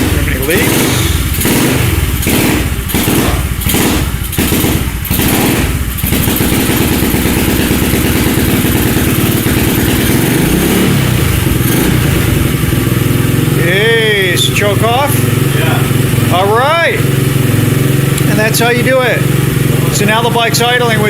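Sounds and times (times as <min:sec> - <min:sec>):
pit bike engine revving and idling: 0:00.0 - 0:21.0.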